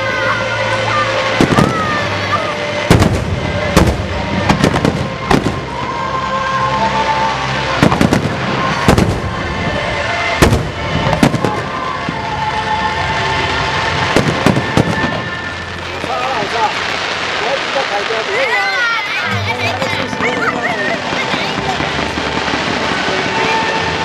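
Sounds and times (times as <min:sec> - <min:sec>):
fireworks crackle and rumble: 0:00.0 - 0:24.0.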